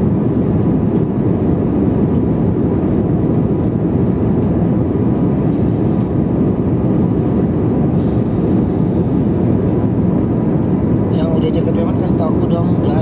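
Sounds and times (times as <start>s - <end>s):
jet cabin rumble: 0.0s - 13.0s.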